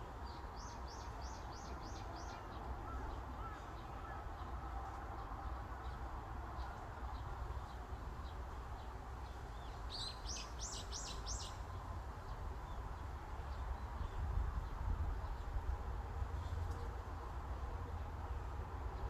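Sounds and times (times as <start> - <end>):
breeze with low wind rumble: 0.0 - 19.0.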